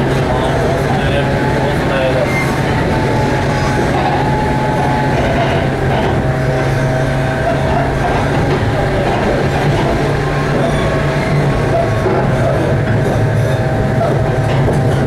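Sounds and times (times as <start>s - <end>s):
low motor hum: 0.0s - 15.0s
train wheels rumbling on rail: 0.0s - 15.0s.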